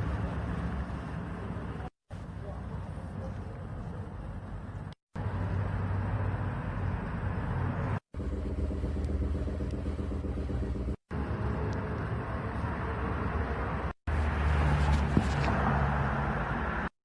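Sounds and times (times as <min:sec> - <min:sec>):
car engine humming: 0:00.0 - 0:16.4.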